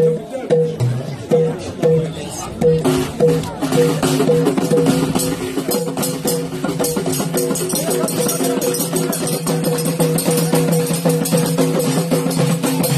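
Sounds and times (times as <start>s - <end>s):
fast hand percussion: 0.0s - 12.9s.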